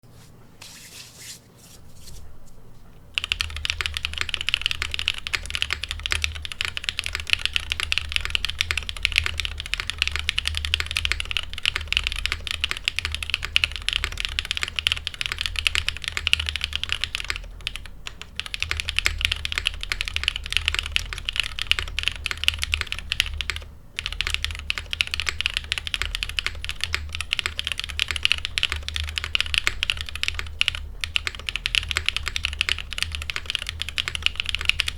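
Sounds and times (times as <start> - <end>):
fast typing on mechanical keyboard: 3.2 - 34.9.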